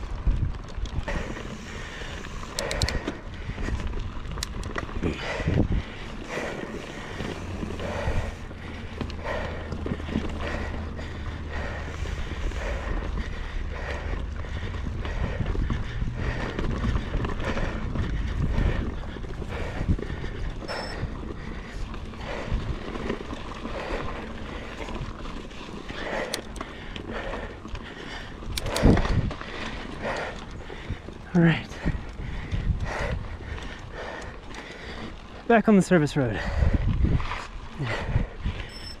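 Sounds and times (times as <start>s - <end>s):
wind buffeting microphone: 0.0s - 38.8s.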